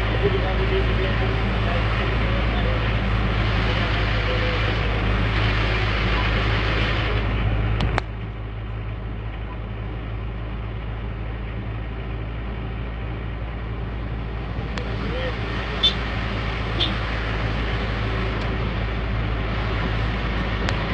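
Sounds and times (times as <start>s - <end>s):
diesel truck engine droning: 0.0s - 20.9s.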